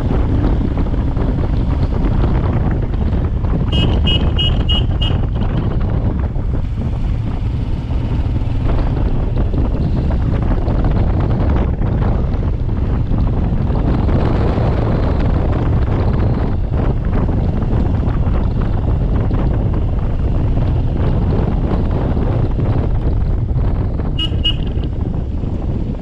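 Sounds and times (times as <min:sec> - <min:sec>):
wind noise on microphone: 0:00.0 - 0:26.0.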